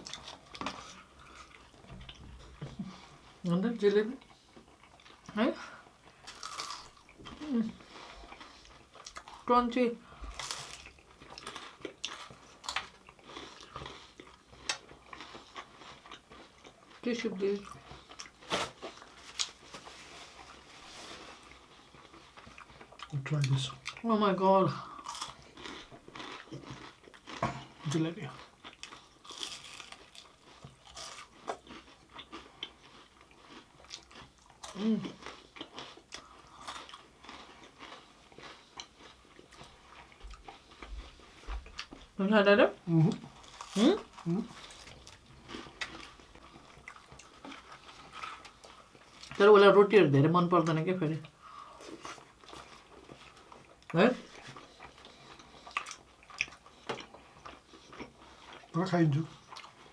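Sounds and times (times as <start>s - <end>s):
crisp sweet being chewed: 4.2s - 9.5s, 10.1s - 24.1s, 24.9s - 49.5s, 50.6s - 59.9s.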